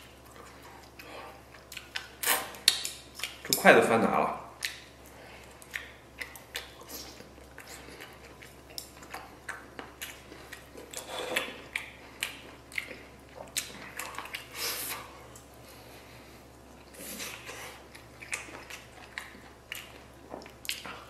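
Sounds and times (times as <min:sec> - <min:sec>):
man chewing meat: 0:00.0 - 0:03.6, 0:04.5 - 0:21.0.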